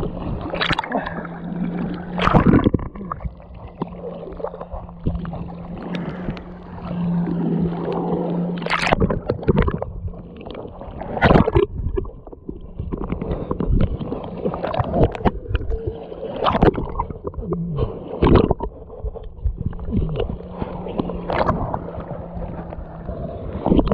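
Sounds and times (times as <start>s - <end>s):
low steady hum: 0.0s - 23.9s
water sloshing and splashing: 0.0s - 23.9s.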